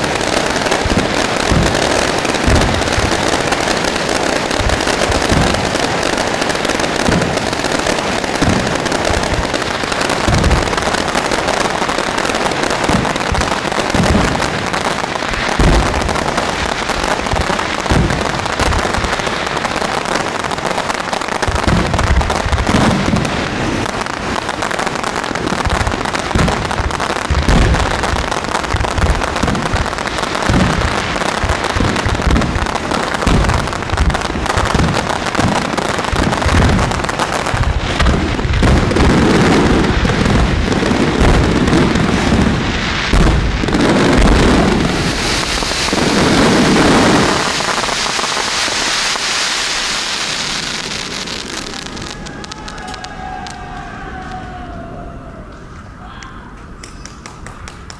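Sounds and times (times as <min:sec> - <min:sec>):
fireworks booming: 0:00.0 - 0:56.0
fireworks crackling: 0:00.0 - 0:57.9.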